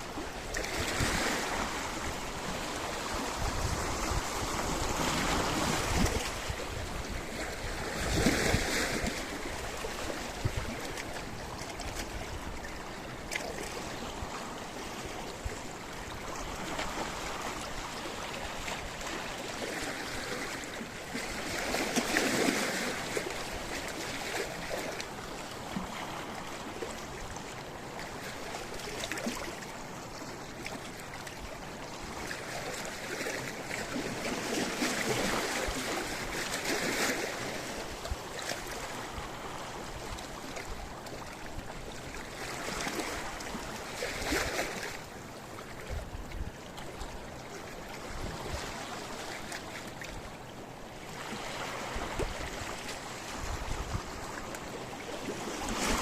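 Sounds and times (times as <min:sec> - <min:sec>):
waves washing on rocky beach: 0:00.0 - 0:56.0.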